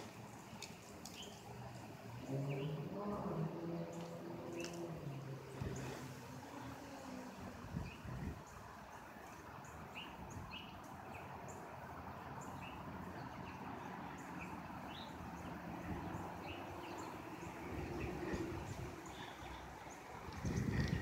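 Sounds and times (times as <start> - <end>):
small birds chirping: 0.3 - 7.2, 7.8 - 21.0.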